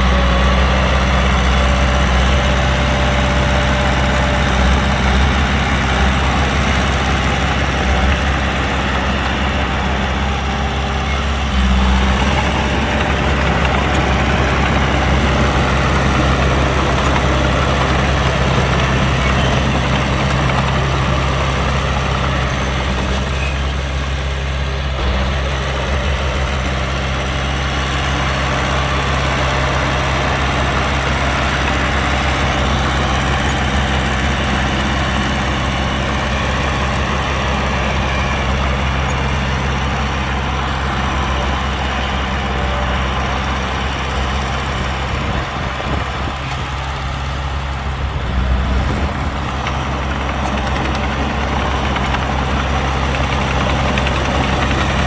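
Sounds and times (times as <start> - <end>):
heavy diesel engine idling: 0.0 - 55.0.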